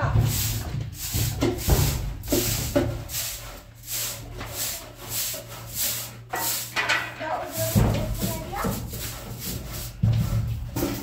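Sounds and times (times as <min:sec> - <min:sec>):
rough scraping strokes: 0:00.3 - 0:10.1.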